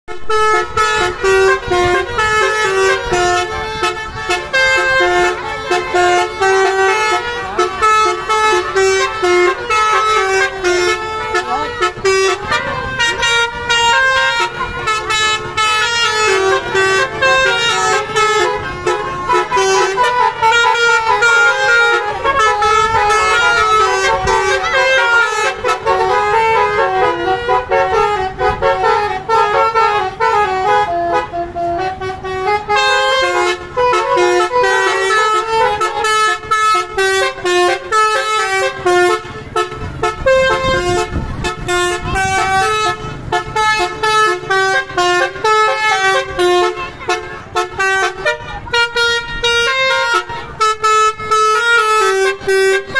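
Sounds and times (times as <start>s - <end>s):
multi-tone air horn melody: 0.1s - 52.9s.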